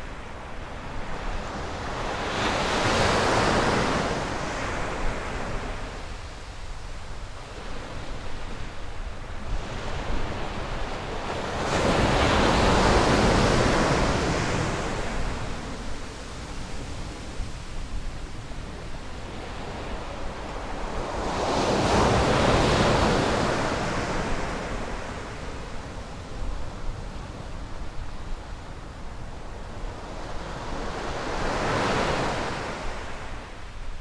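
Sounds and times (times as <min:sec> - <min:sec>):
wind rumbling on microphone: 0:00.0 - 0:34.0.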